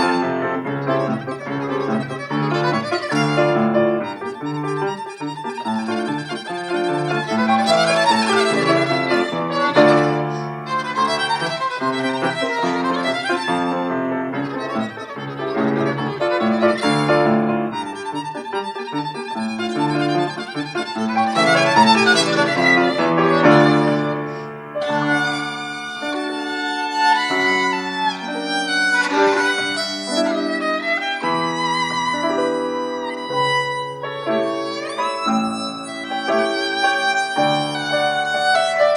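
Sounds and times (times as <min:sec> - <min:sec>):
piano accompaniment: 0:00.0 - 0:38.9
violin melody: 0:00.0 - 0:38.9.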